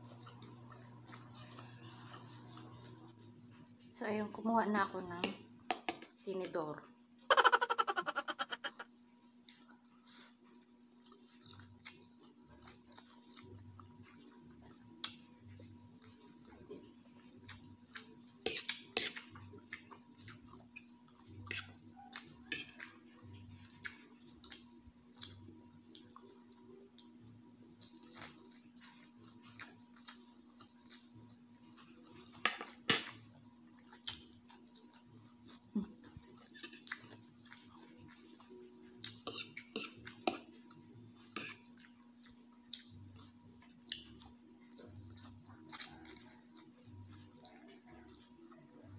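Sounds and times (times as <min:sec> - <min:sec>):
wet chewing: 0:09.5 - 0:48.9.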